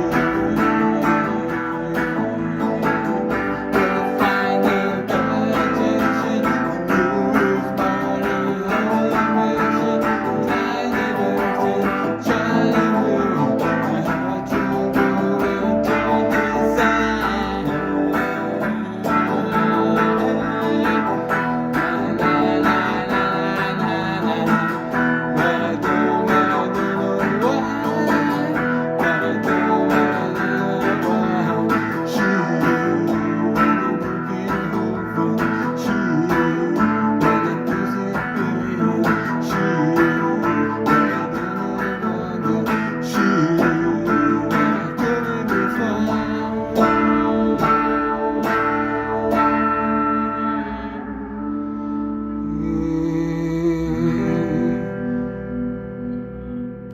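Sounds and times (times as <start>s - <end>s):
guitar plucked and strummed: 0.0s - 56.9s.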